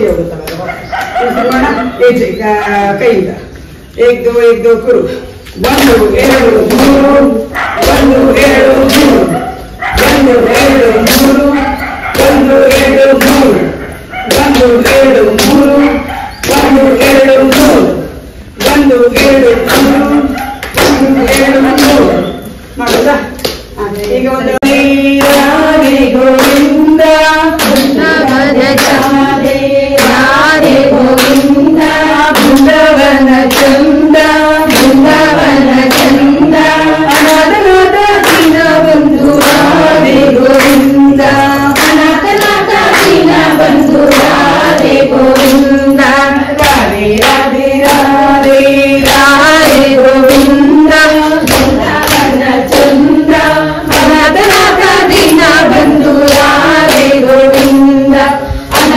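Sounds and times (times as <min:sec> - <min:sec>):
group of voices singing: 0:00.0 - 0:58.9
hand claps: 0:00.4 - 0:01.8, 0:05.4 - 0:58.9.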